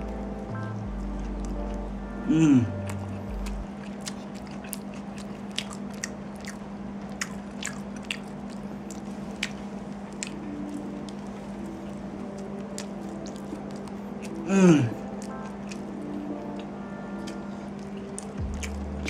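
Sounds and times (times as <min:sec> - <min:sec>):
steady low hum: 0:00.0 - 0:19.0
chewing with wet mouth clicks: 0:02.8 - 0:11.4, 0:12.2 - 0:19.0.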